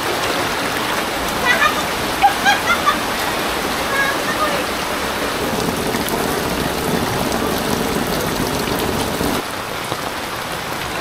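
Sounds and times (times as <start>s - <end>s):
heavy rain on flooded street: 0.0s - 11.0s.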